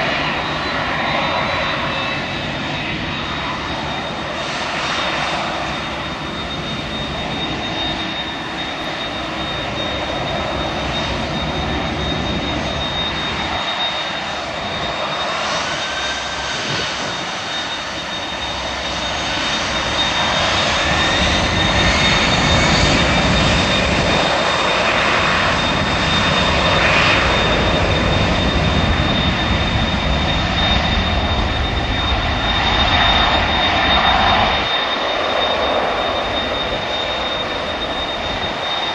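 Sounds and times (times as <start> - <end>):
high steady whine: 0.0 - 38.9
jet engines roaring: 0.0 - 38.9.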